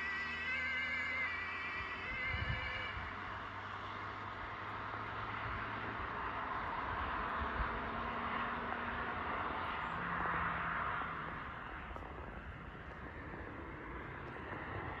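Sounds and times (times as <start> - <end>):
distant vehicle road noise: 0.0 - 15.0.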